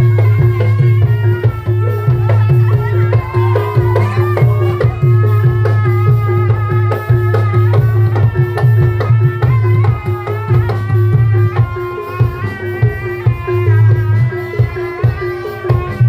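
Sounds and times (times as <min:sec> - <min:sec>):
hand drum strokes: 0:00.0 - 0:16.0
wavering melody: 0:00.0 - 0:16.0.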